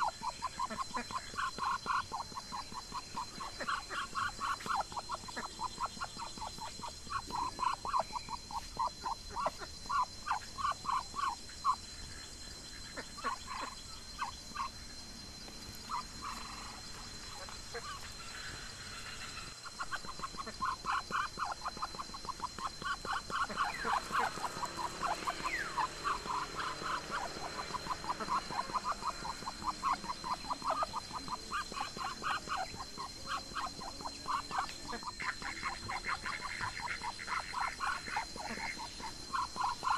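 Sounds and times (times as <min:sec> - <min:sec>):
rapid animal calls: 0:00.0 - 0:14.9, 0:15.6 - 0:39.9.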